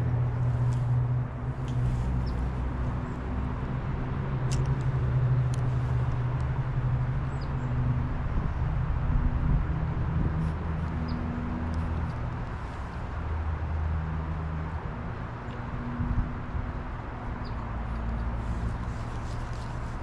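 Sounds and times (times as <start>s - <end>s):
constant noise wash: 0.0s - 20.0s
vehicle engine hum: 0.0s - 20.0s.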